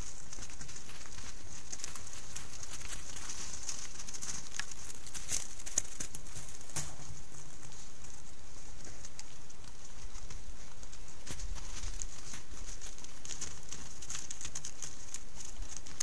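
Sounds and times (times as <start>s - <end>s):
microphone hiss: 0.0s - 16.0s
paws crunching in snow: 0.0s - 16.0s.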